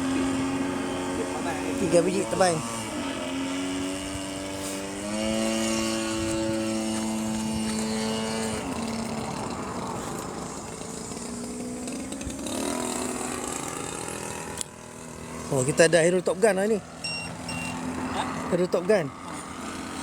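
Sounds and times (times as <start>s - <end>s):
model aeroplane motor droning: 0.0s - 20.0s.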